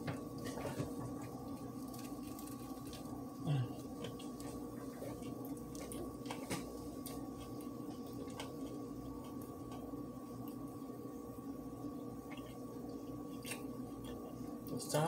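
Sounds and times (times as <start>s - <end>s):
electrical hum: 0.0s - 15.0s
crunchy chewing: 0.4s - 11.0s, 12.1s - 14.6s.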